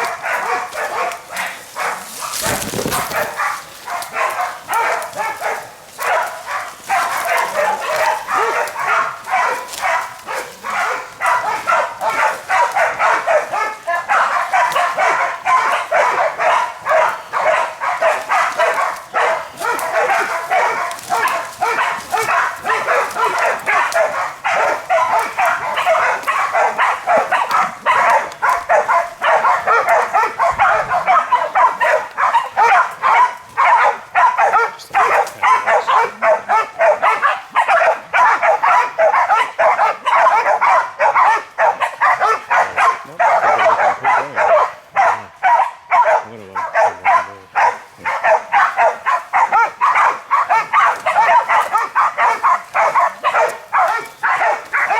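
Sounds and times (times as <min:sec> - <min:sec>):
dogs barking rapidly: 0:00.0 - 0:54.9.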